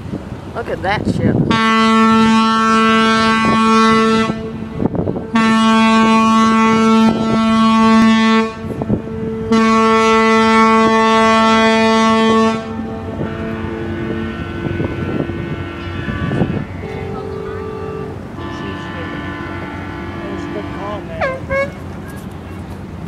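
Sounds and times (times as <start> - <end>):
ship's horn blasts: 0.8 - 22.7.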